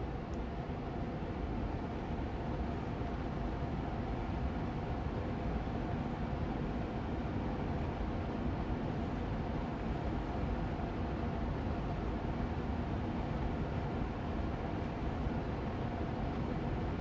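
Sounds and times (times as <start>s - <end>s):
air purifier fan running: 0.0s - 17.0s.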